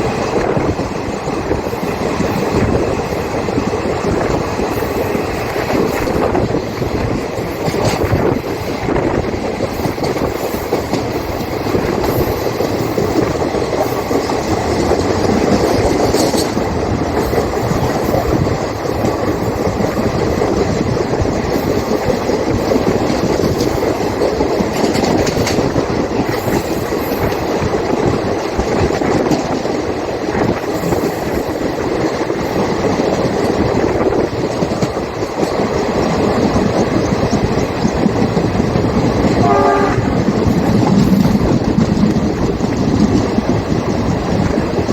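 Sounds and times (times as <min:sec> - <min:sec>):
train wheels rumbling on rail: 0:00.0 - 0:44.9
wheels clickety-clack on rail joints: 0:00.0 - 0:44.9.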